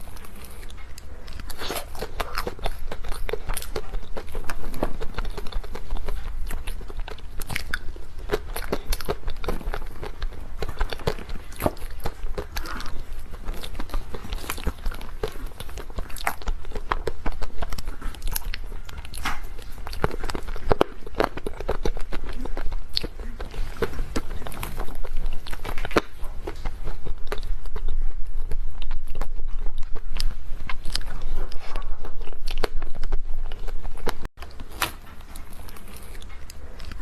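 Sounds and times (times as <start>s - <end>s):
person chewing cake: 0.0s - 37.0s.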